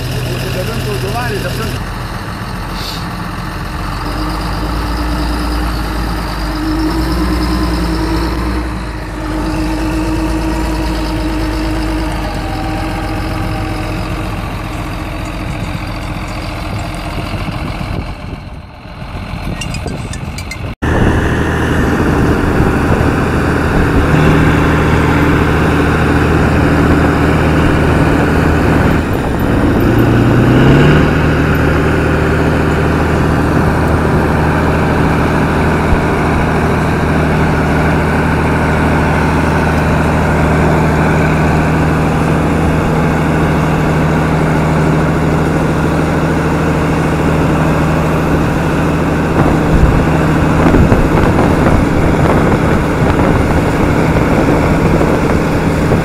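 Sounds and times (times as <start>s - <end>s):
tractor engine under heavy load: 0.0s - 56.0s.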